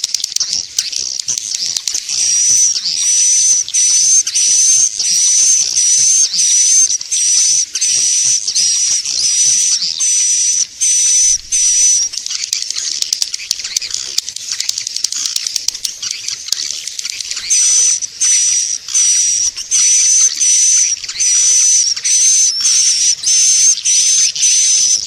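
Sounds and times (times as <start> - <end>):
hissing twitter: 0.0 - 25.0
high whistled bird chirps: 0.1 - 25.0.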